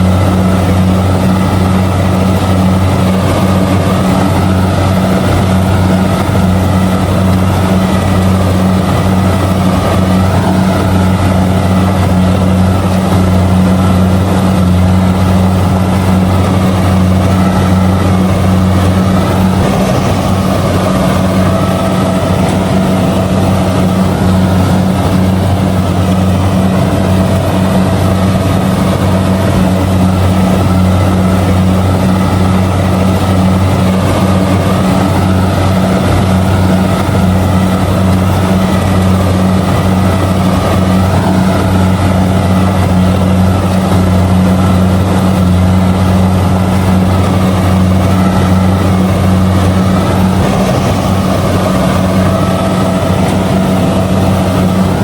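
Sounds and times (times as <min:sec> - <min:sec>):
combine harvester engine droning: 0:00.0 - 0:55.0
machinery noise: 0:00.0 - 0:55.0.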